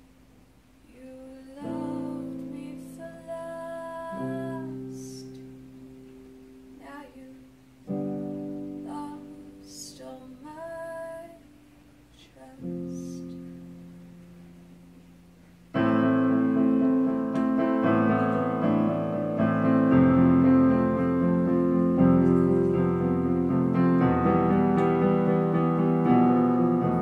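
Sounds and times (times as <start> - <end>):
digital piano chords: 1.6 - 10.2, 12.6 - 27.0
piano melody notes: 1.6 - 11.3, 12.5 - 27.0.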